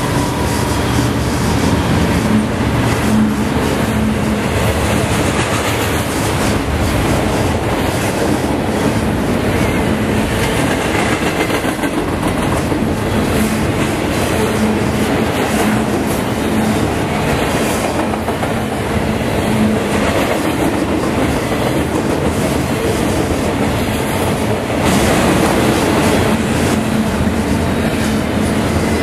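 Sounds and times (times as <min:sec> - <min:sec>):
freight train rumble: 0:00.0 - 0:29.0.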